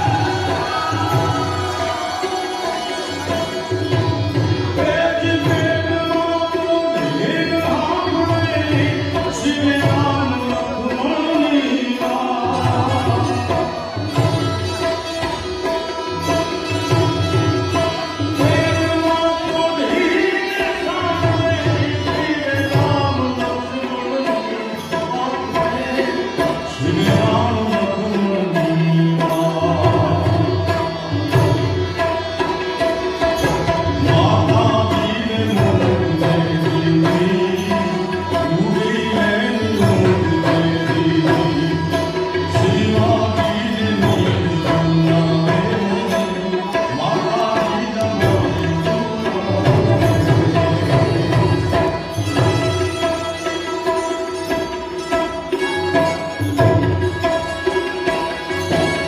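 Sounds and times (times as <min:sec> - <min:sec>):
harmonium chords: 0:00.0 - 0:59.0.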